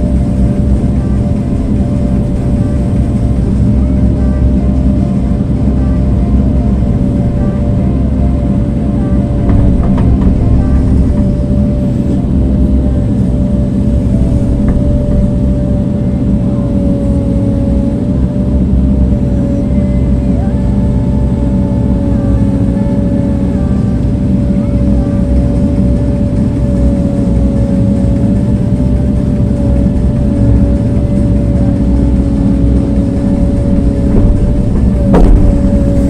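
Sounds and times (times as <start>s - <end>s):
heavy machine engine running: 0.0s - 36.0s
steady whine: 0.0s - 36.0s.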